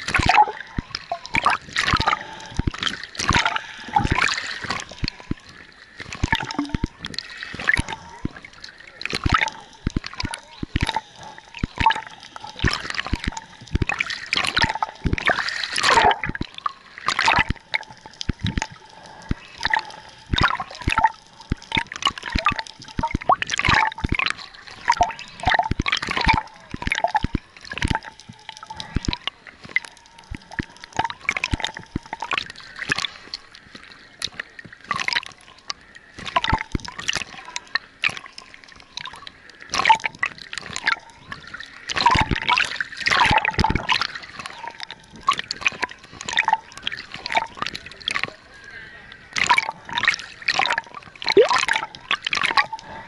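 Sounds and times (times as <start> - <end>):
underwater clicks and pops: 0.0 - 48.4, 49.3 - 52.9
underwater bubbling and sloshing: 0.0 - 53.0.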